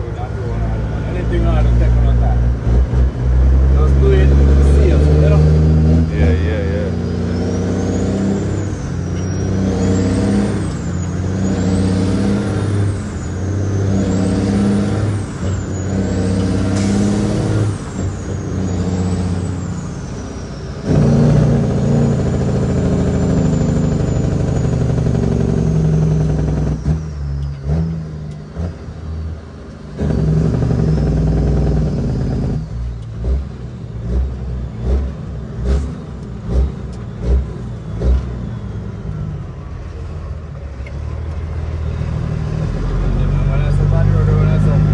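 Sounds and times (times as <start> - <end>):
truck diesel engine revving: 0.0 - 44.9.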